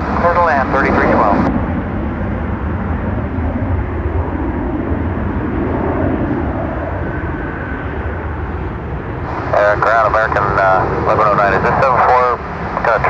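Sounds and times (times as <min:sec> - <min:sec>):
faint engine whine: 0:00.0 - 0:13.0
jet engines rumbling: 0:00.0 - 0:13.0.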